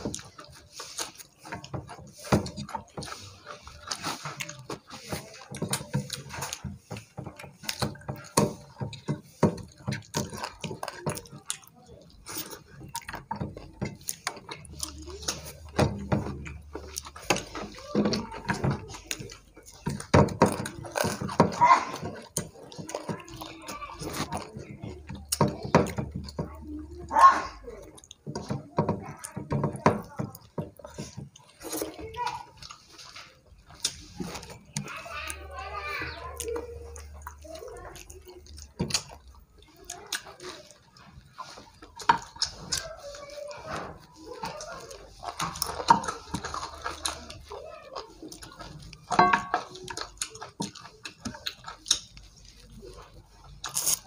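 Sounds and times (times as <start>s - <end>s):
fingers squishing rice: 0.0s - 54.0s
wet chewing: 0.0s - 54.0s.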